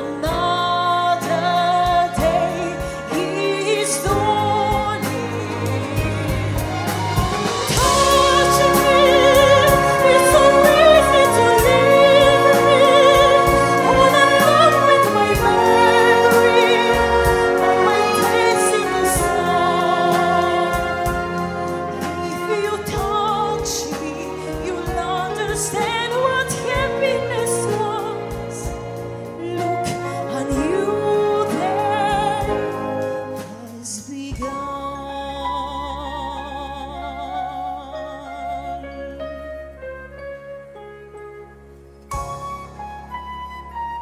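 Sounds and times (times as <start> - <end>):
orchestra strings: 0.0 - 44.0.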